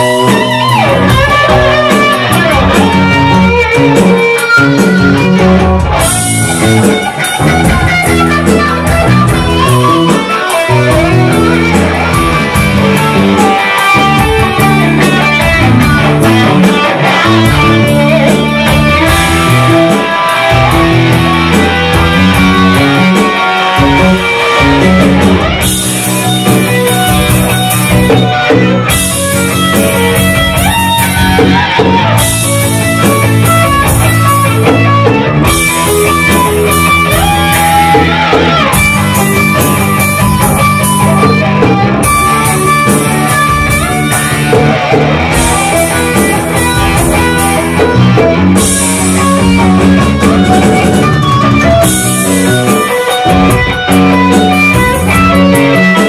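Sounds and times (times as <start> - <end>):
bass and rhythm backing: 0.0 - 56.0
electric guitar lead line: 0.0 - 56.0.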